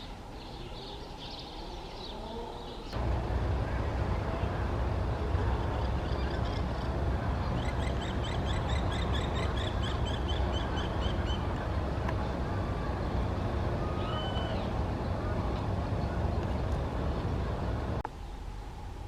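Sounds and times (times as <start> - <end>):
steady low rumble: 3.0 - 19.0.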